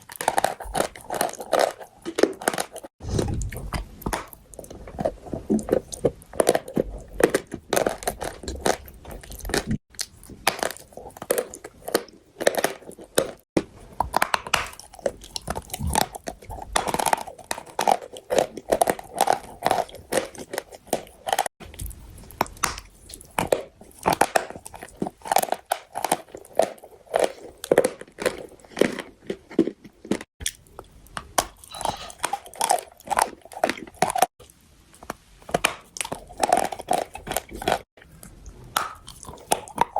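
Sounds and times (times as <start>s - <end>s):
person chewing chalk crunching: 0.0s - 39.9s.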